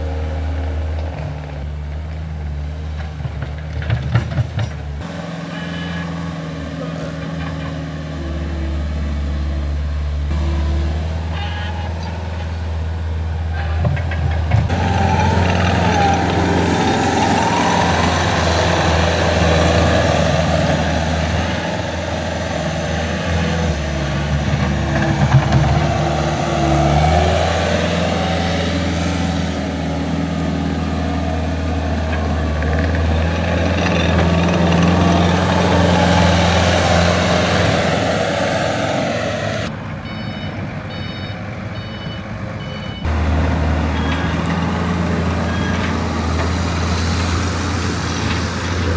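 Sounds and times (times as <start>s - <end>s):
heavy machine engine humming: 0.0s - 48.9s.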